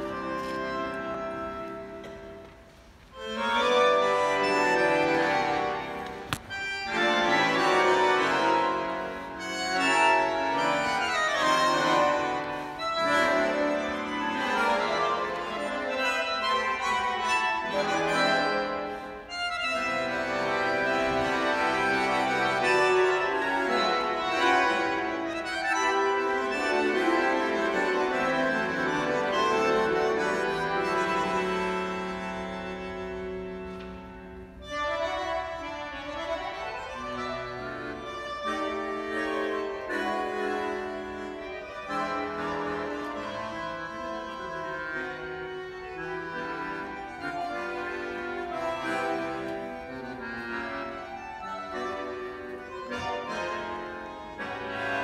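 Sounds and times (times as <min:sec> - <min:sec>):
bandoneons playing tango: 0:00.0 - 0:55.0.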